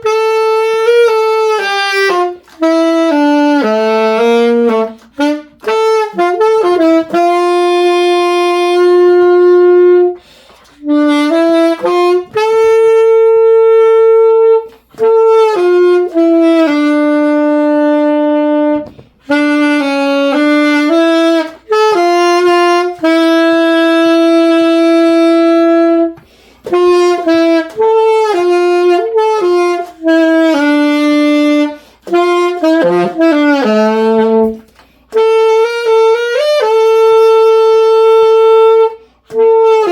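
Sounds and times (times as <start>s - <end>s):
solo saxophone melody: 0.0s - 39.9s.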